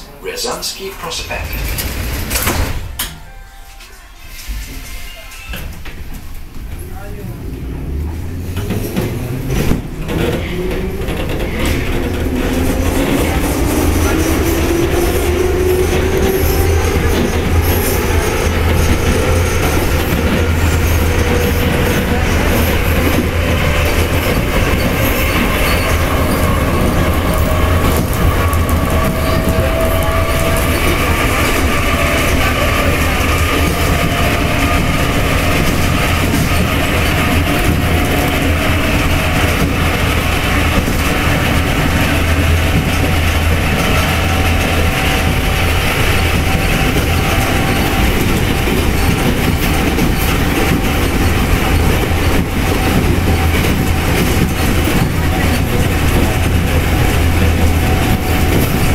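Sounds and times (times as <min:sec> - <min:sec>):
wheels rumbling on rail: 0:00.0 - 0:58.9
train traction motors whining: 0:00.3 - 0:58.9.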